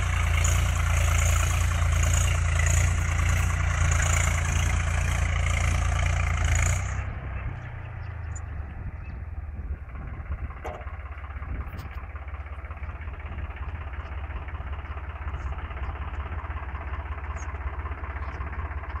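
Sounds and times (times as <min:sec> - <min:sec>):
tractor diesel engine throbbing: 0:00.0 - 0:19.0.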